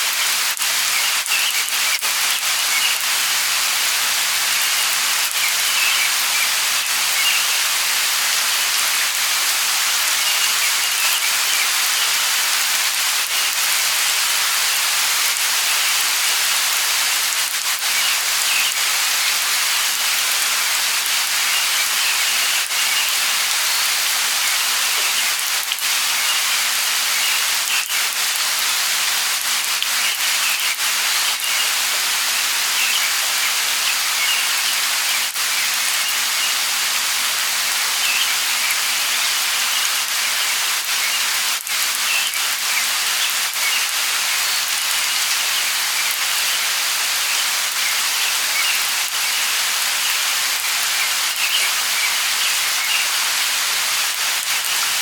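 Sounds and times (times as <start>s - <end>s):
light rain hissing: 0.0s - 55.0s.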